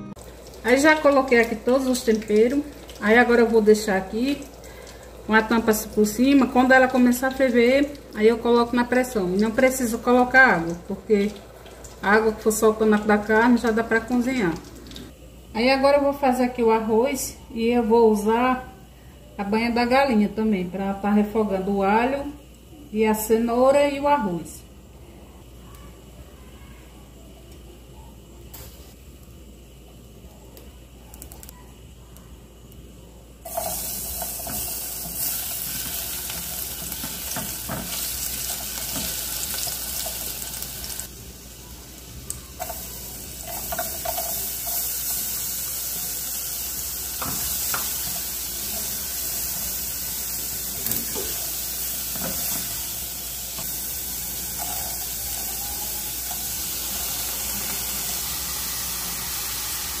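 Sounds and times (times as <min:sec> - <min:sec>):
food sizzling in a saucepan: 0:00.0 - 0:27.4, 0:28.5 - 0:30.2, 0:33.3 - 1:00.0.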